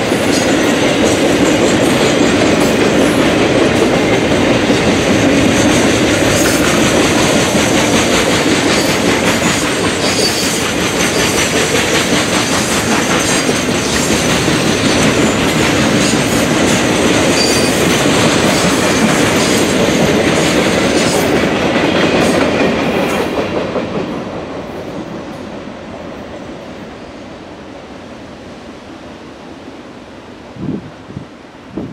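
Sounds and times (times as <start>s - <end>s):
train wheels clicking over rail joints: 0.0s - 25.6s.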